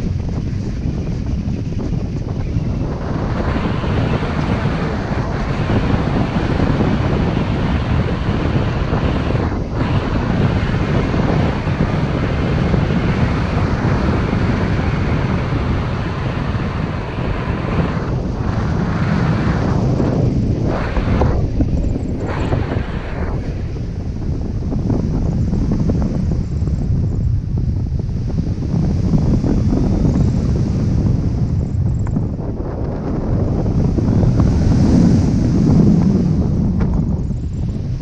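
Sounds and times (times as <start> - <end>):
strong wind on microphone: 0.0 - 38.0.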